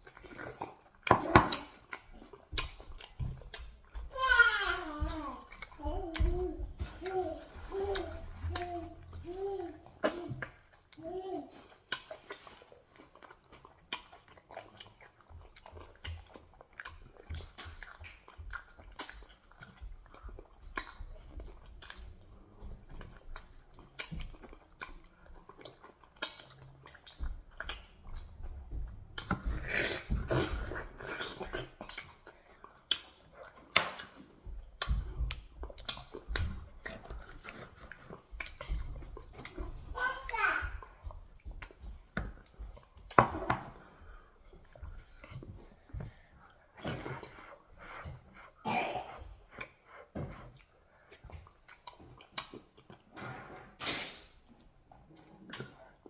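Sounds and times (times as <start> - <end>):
chewing and mouth noises: 0.0 - 53.2, 53.8 - 56.0.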